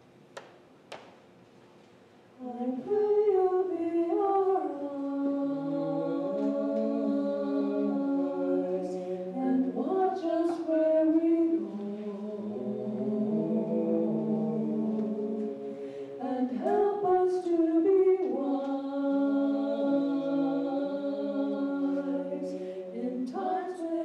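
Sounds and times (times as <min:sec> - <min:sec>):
man and women singing in harmony: 0:02.4 - 0:24.0.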